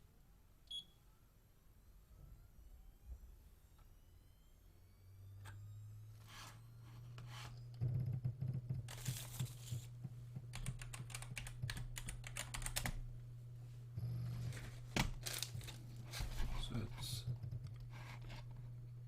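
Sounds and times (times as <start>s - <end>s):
hard drive humming: 3.6s - 19.0s.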